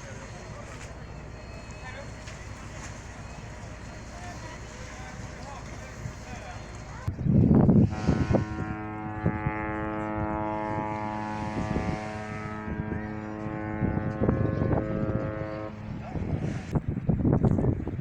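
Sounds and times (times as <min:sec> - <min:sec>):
voices: 0:00.0 - 0:07.3, 0:07.9 - 0:16.7
ship's horn blast: 0:00.0 - 0:16.8.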